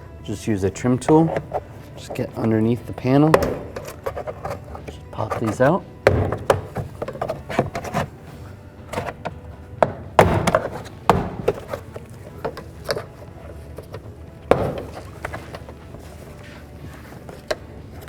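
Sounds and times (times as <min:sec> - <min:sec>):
door panel rattling: 0:00.6 - 0:18.0.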